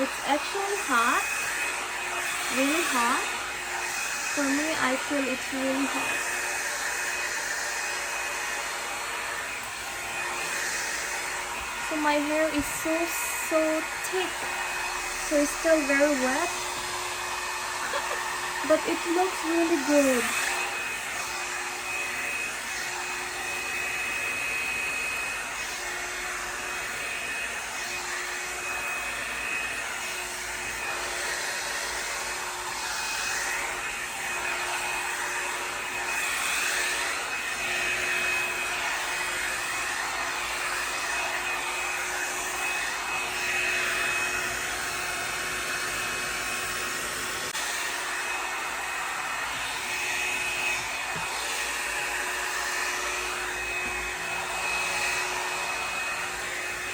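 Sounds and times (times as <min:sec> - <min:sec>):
hot-air brush dryer whining: 0:00.0 - 0:56.9.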